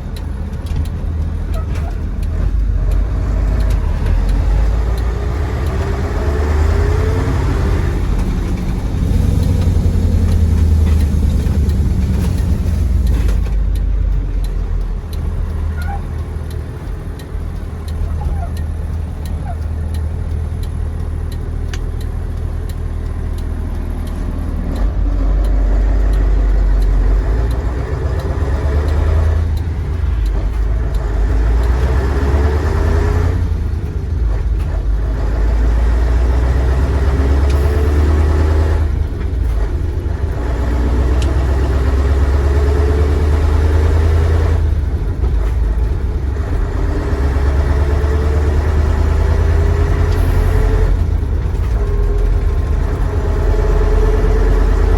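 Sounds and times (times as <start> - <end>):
diesel truck engine shifting gears: 0.0 - 54.9.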